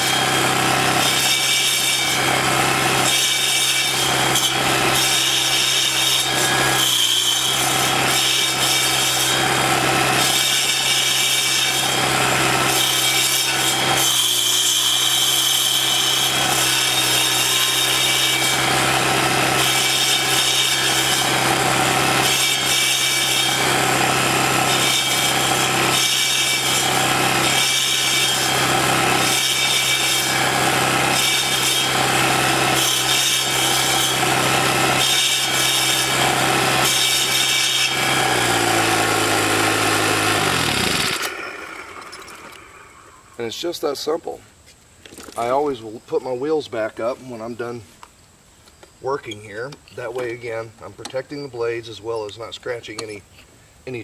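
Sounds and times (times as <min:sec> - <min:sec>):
saw blades grinding wood: 0:00.0 - 0:44.4, 0:49.0 - 0:53.2.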